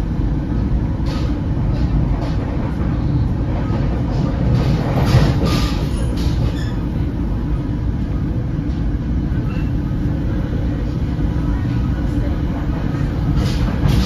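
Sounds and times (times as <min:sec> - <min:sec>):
train coach rumbling: 0:00.0 - 0:14.0.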